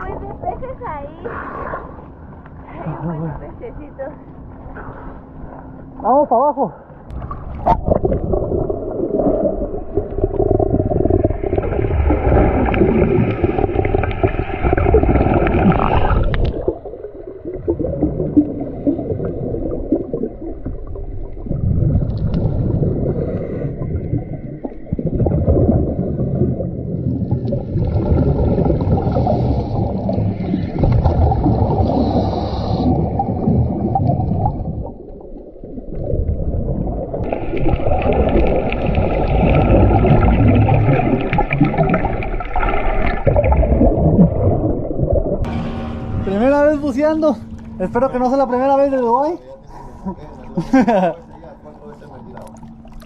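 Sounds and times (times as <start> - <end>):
muffled water rushing underwater: 6.8 - 53.0.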